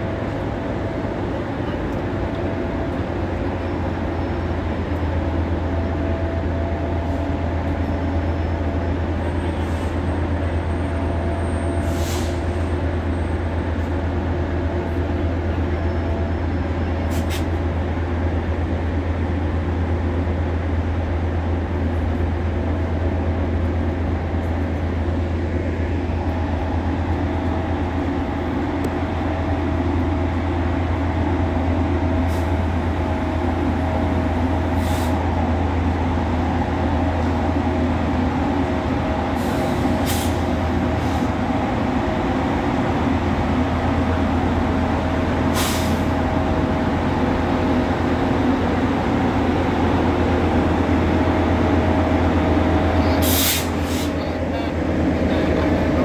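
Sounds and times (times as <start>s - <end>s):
diesel train idling hum: 0.0s - 56.0s.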